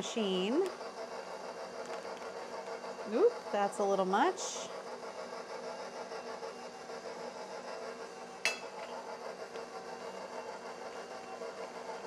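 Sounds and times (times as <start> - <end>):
electric stand mixer running: 0.0 - 12.0.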